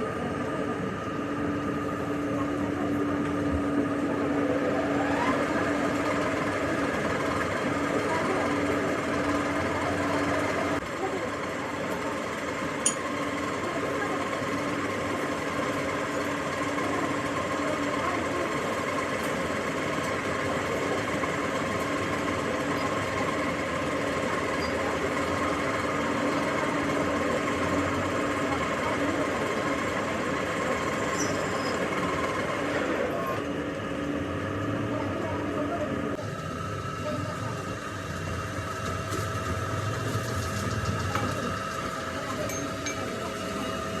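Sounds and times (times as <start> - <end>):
workshop machine humming and whining: 0.0 - 44.0.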